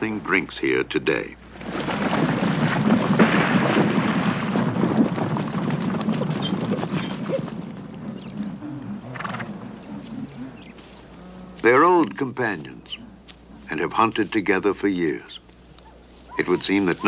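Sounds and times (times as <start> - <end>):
galloping hooves: 1.4 - 17.0.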